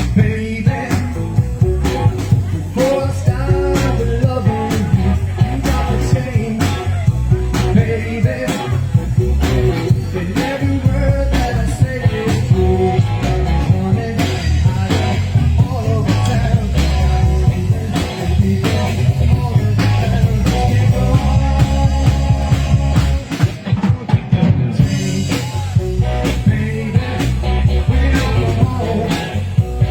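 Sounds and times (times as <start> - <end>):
live rock band playing: 0.0 - 29.9.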